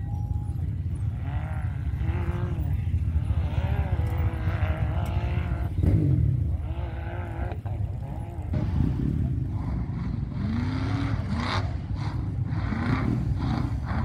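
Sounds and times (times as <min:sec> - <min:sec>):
buggy engines revving: 0:00.0 - 0:14.0.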